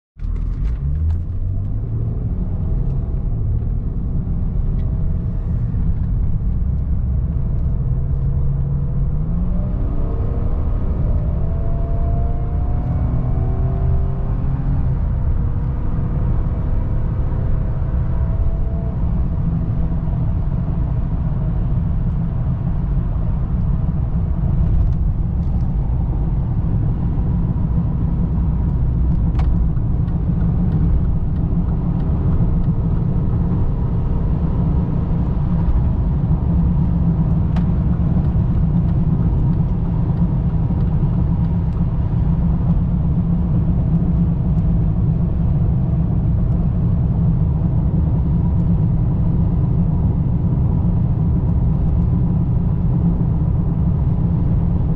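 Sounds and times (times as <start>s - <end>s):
car engine and road noise: 0.2s - 54.9s.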